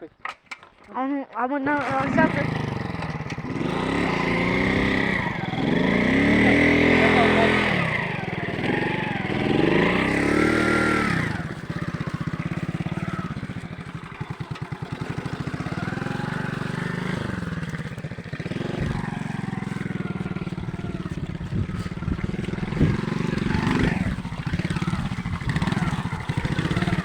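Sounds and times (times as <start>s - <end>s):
moped engine revving and idling: 1.6s - 27.0s.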